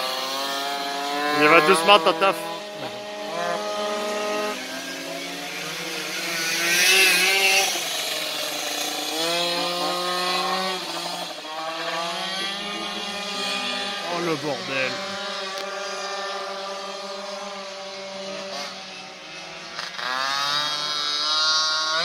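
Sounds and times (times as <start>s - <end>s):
moped engines revving: 0.0s - 22.0s.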